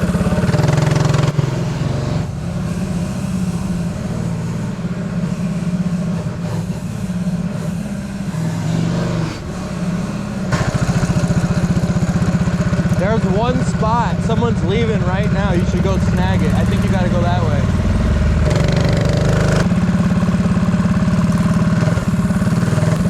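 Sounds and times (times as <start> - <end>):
mini bike engines chugging: 0.0 - 23.0.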